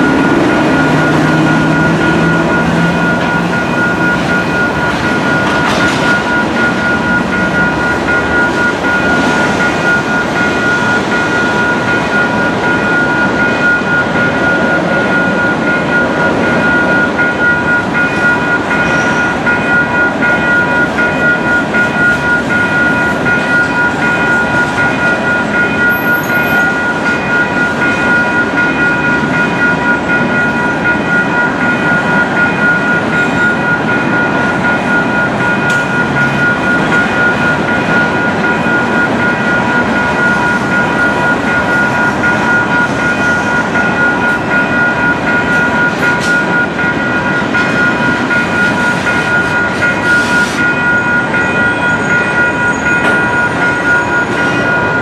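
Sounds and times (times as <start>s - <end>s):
crossing warning bell: 0.0s - 55.0s
freight train wheels rumbling: 0.0s - 55.0s.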